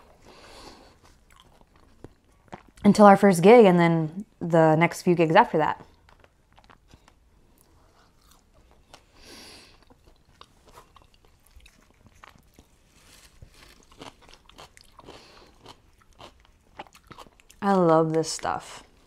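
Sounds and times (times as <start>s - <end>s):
chewing and crunching food: 0.0s - 3.0s, 5.6s - 19.0s.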